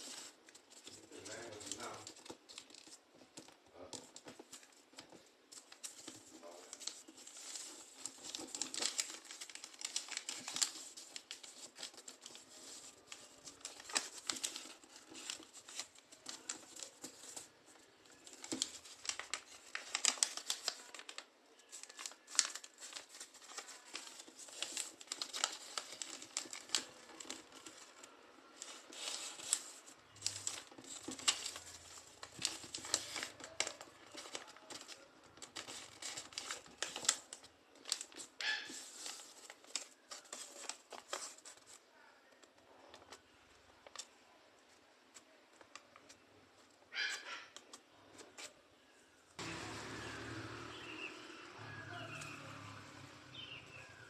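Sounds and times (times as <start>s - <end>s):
sharp clicks of paper creases: 0.0s - 44.2s, 45.1s - 48.6s
paper rustling and crinkling: 0.0s - 48.7s.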